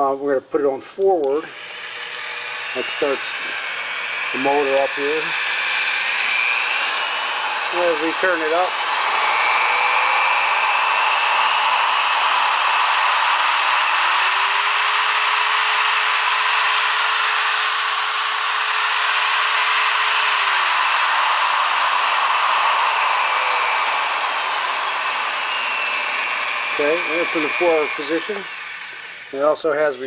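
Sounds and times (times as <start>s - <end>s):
drill press motor whine: 0.8s - 30.0s.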